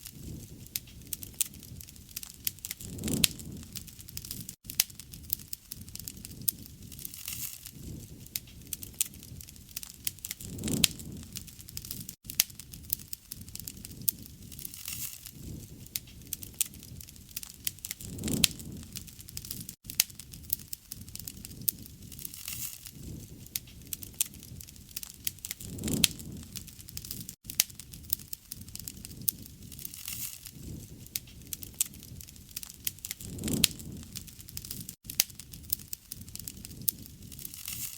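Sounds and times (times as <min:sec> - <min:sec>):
low rumble of flame: 0:00.0 - 0:37.9
wood fire crackling and popping: 0:00.0 - 0:37.9.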